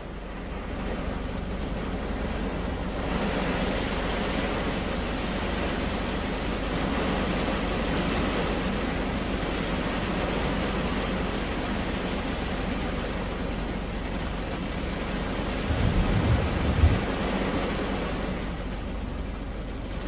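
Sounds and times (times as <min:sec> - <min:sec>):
rain pattering on car roof: 0:00.0 - 0:20.0.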